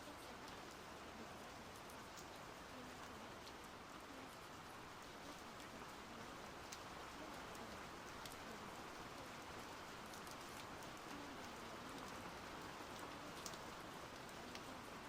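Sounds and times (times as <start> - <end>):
raindrops ticking: 0.0 - 15.0
steady rain falling: 0.0 - 15.0.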